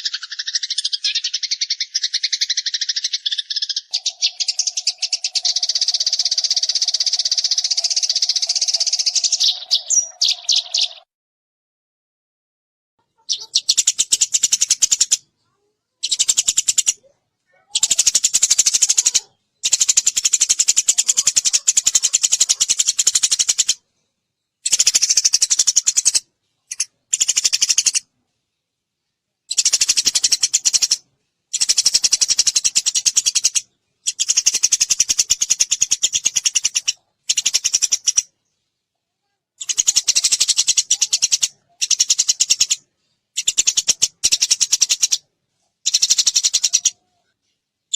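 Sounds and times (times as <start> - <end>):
sparrow chirping: 0.0 - 11.0, 13.1 - 23.8, 24.4 - 28.1, 29.5 - 38.8, 39.6 - 47.9.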